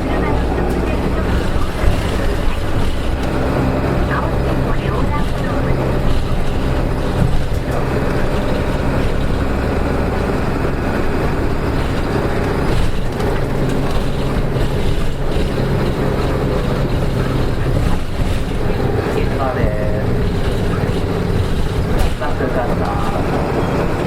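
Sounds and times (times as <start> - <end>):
bus diesel engine running: 0.0 - 24.0
road noise: 0.0 - 24.0.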